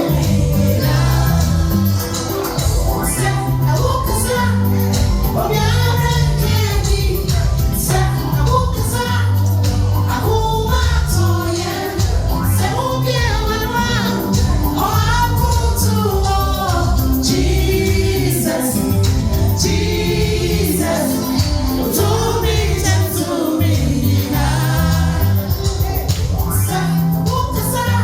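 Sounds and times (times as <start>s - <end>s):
steady drum beat: 0.0s - 27.8s
band with bass line: 0.0s - 28.0s
voices singing together: 0.0s - 28.0s.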